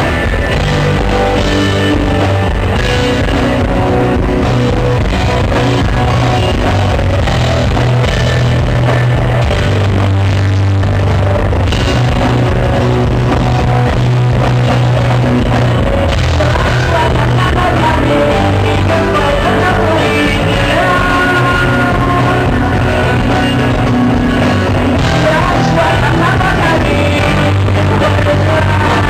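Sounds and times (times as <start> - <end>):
driving bass line: 0.0 - 29.0
rock band playing live: 0.0 - 29.0.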